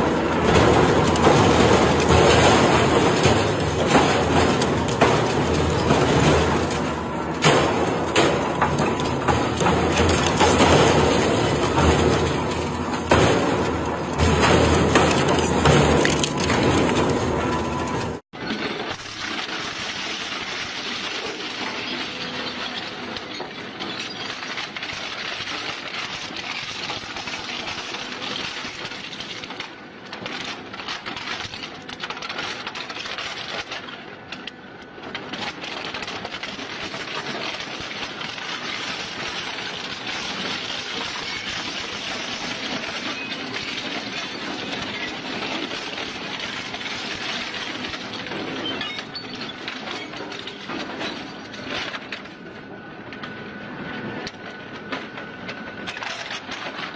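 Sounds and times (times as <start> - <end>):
shredder crunching plastic: 0.0 - 52.4.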